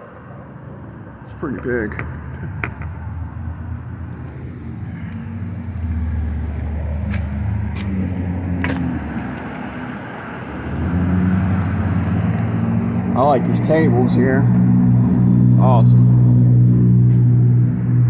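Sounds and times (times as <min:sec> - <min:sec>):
street traffic noise: 0:00.0 - 0:18.0
vehicle engine humming: 0:00.0 - 0:18.0.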